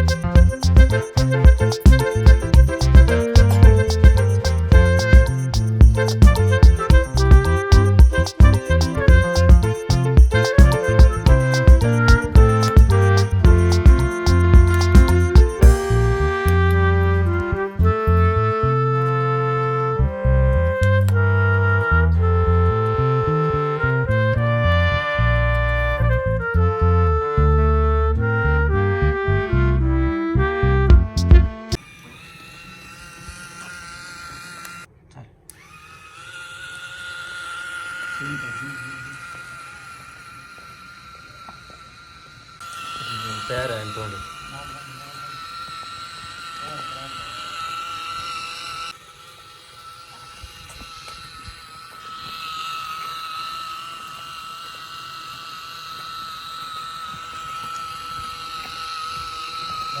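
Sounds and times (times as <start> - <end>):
small electric motor whining: 0.0 - 28.5, 29.8 - 60.0.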